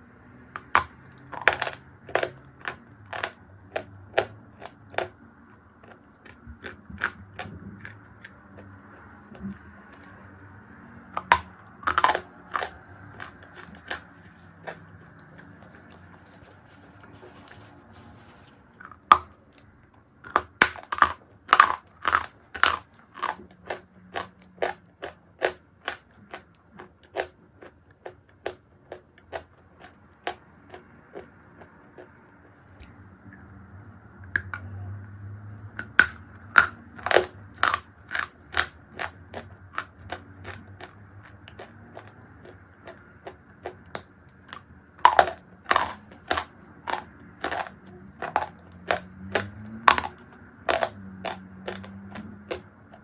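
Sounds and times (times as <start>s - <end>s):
chewing crunchy chalk: 0.5s - 33.5s, 35.8s - 53.0s.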